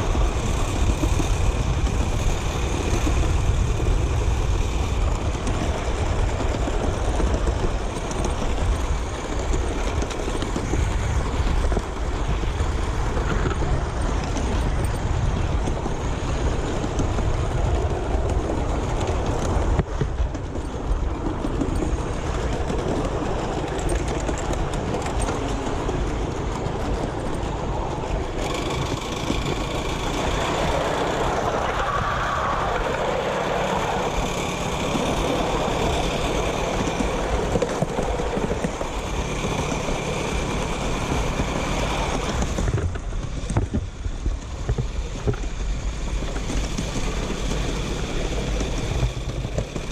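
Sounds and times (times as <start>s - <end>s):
miniature steam train rumbling: 0.0s - 49.9s.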